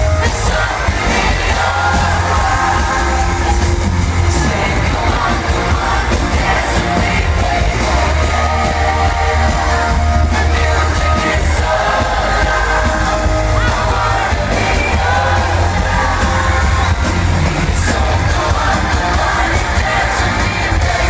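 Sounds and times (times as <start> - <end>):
amplified band and singing: 0.0 - 21.0
fans yelling: 0.0 - 21.0.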